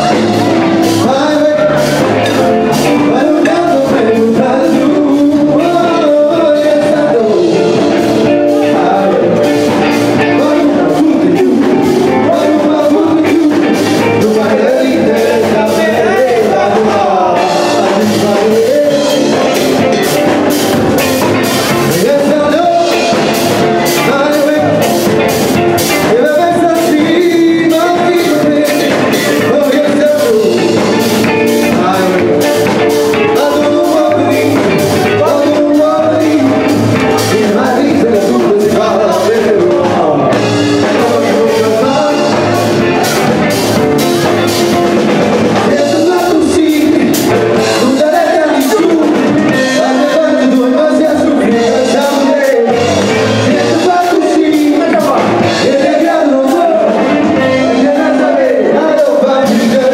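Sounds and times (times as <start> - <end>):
drum kit beat: 0.0 - 59.9
electric guitars: 0.0 - 59.9
person singing: 0.0 - 59.9.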